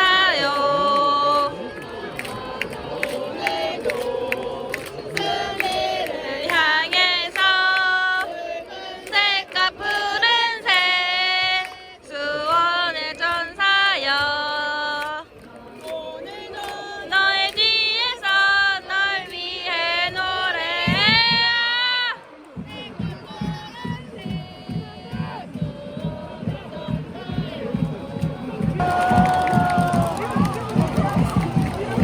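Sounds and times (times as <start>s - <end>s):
voices chanting a melody: 0.0s - 12.4s, 15.6s - 32.0s.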